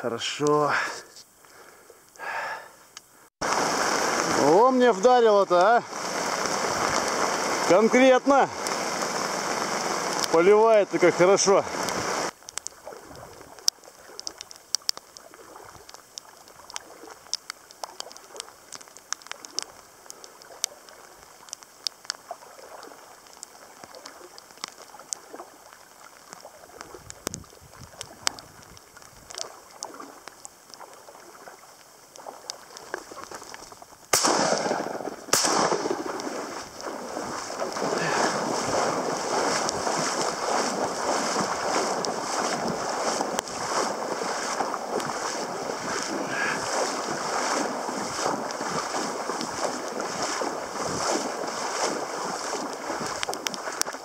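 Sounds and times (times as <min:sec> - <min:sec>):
faint rain hiss: 0:00.0 - 0:54.0
raindrops tapping on camera: 0:03.4 - 0:54.0
rush of wind-driven rain: 0:03.4 - 0:54.0.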